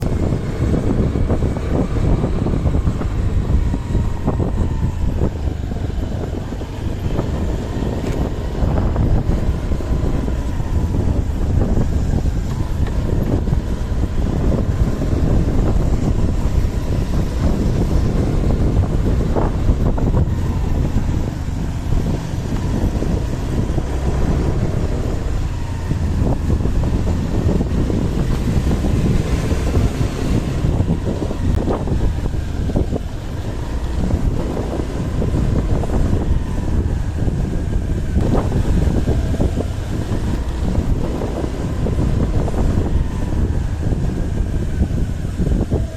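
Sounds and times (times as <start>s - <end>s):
vehicle running rumble: 0.0s - 45.9s
wind buffeting microphone: 0.0s - 45.9s.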